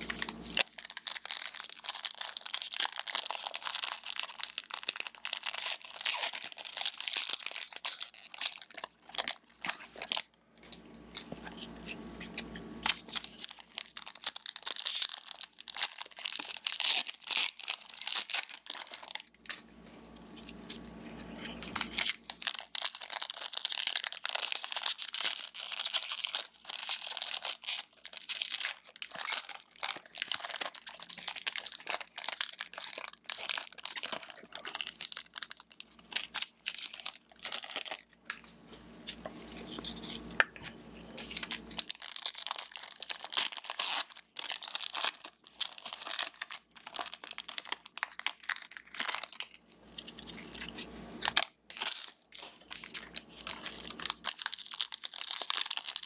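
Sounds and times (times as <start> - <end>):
plastic and foil wrapping tearing: 0.0 - 56.0.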